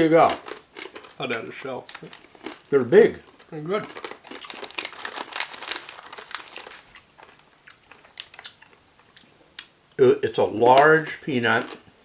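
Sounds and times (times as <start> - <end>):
plastic snack bag crinkling: 0.0 - 9.1, 11.0 - 11.9
crunching peanuts being eaten: 0.0 - 9.7.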